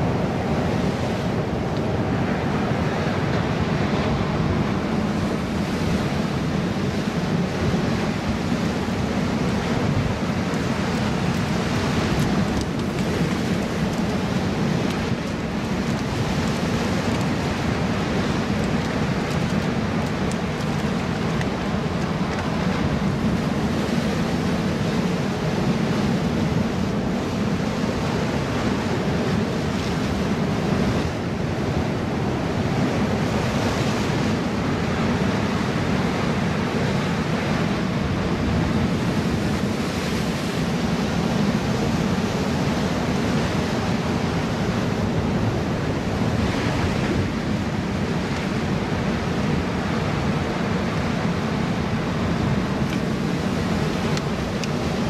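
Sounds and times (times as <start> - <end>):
ocean surf breaking over rocks: 0.0 - 55.0
wind buffeting microphone: 0.0 - 55.0.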